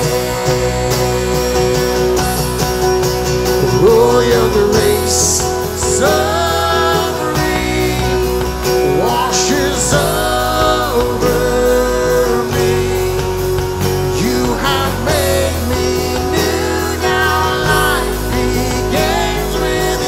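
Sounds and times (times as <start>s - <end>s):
rock worship band playing: 0.0s - 20.0s
singers holding long notes: 0.0s - 20.0s.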